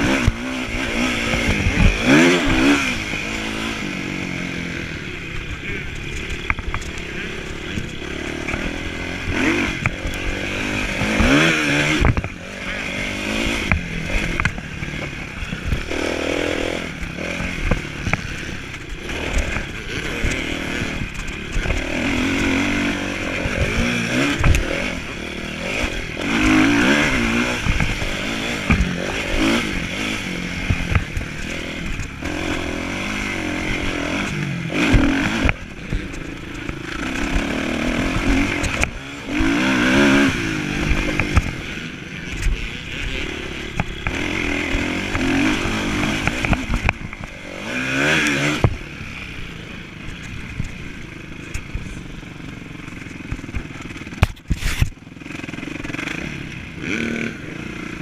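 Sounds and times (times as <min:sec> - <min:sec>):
motorbike engine revving: 0:00.0 - 0:58.0
bike knocks and rattles: 0:05.2 - 0:48.9, 0:50.1 - 0:56.1.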